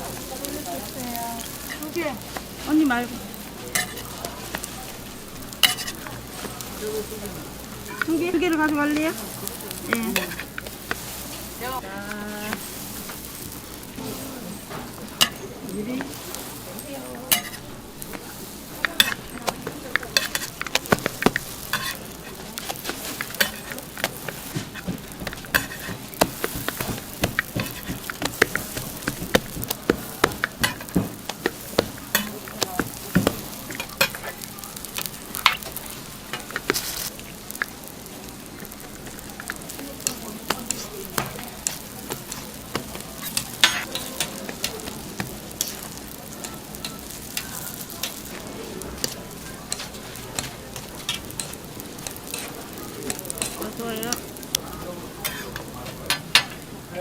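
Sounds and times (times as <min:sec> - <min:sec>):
pancakes sizzling in oil: 0:00.0 - 0:57.0.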